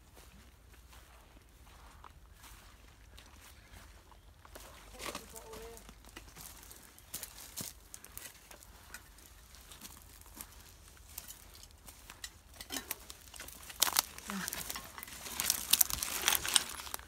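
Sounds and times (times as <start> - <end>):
footsteps crunching through twigs: 0.0 - 17.0.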